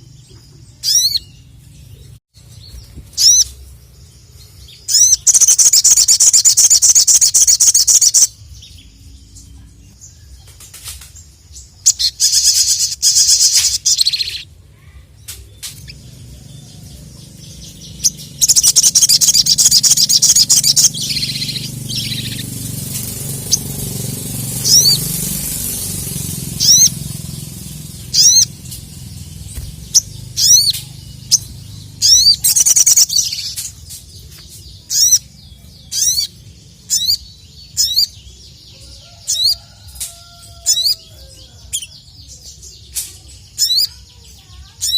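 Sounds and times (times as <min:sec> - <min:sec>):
bird trilling and chirping: 0:00.0 - 0:44.9.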